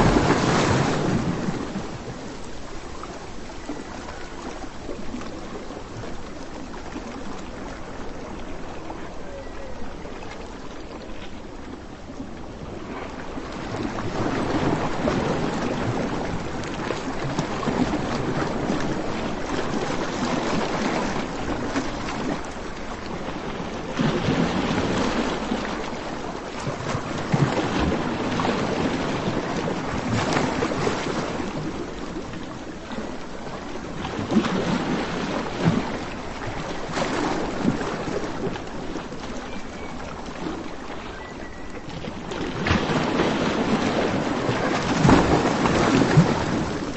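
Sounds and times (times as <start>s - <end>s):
sea surf rushing: 0.0s - 39.4s, 42.0s - 46.9s.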